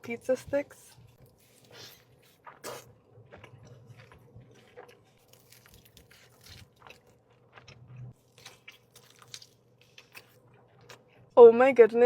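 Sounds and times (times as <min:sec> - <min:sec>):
person chewing crunchy food: 0:01.1 - 0:11.3.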